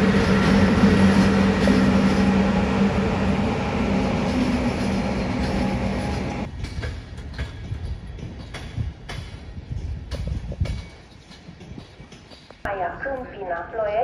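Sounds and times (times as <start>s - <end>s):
train rumbling: 0.0s - 12.9s.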